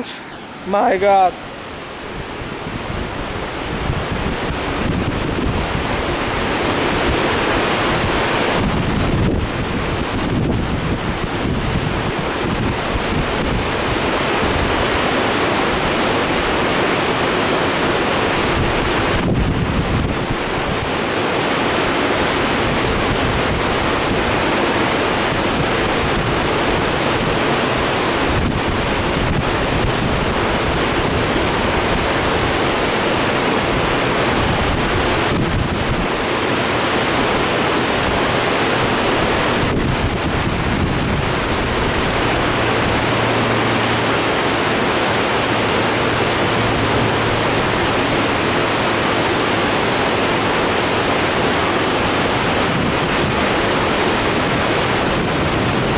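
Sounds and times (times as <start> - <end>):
creek water rushing: 0.0 - 55.9
wind buffeting microphone: 1.6 - 55.9.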